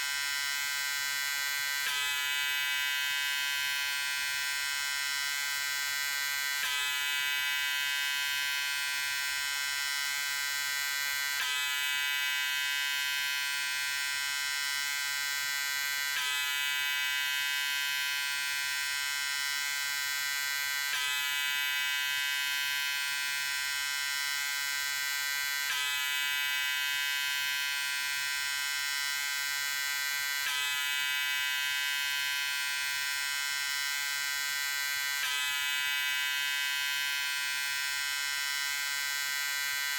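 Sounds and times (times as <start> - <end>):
electric shaver buzzing: 0.0 - 39.9.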